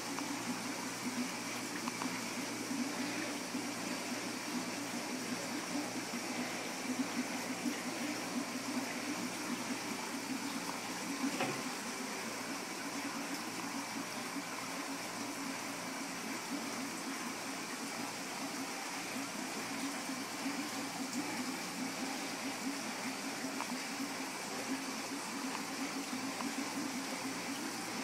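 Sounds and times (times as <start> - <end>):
aquarium water bubbling: 0.0 - 28.0.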